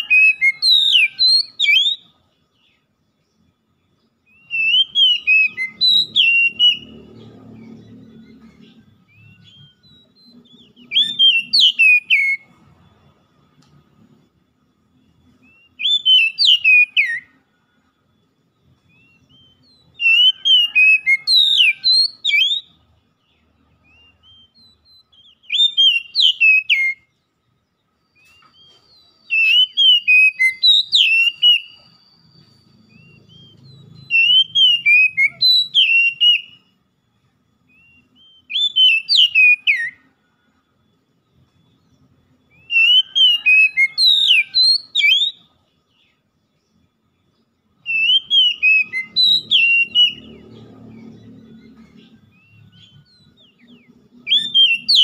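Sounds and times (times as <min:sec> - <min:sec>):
bird singing whistled notes: 0:00.0 - 0:55.0.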